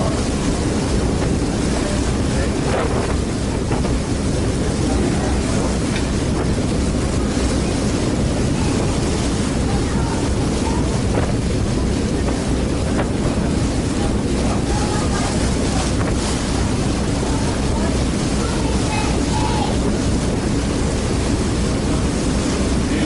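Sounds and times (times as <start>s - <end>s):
ferry engine drone: 0.0s - 23.0s
water rushing past: 0.0s - 23.0s
wind on microphone: 0.0s - 23.0s.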